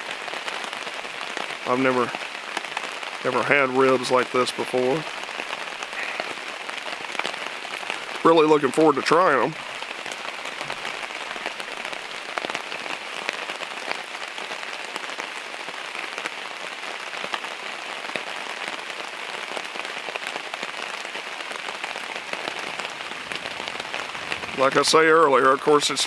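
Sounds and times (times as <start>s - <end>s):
steady rain with drop ticks: 0.0s - 26.0s.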